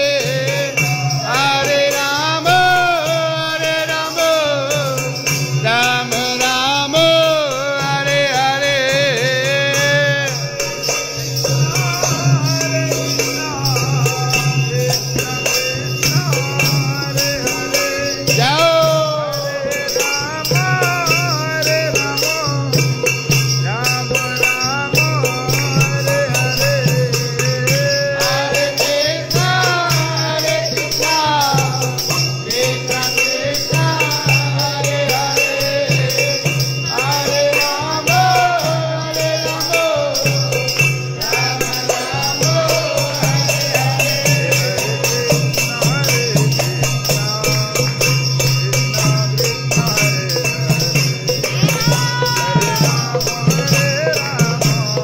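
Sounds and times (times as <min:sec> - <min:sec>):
jingling percussion: 0:00.0 - 0:55.0
person singing: 0:00.0 - 0:55.0.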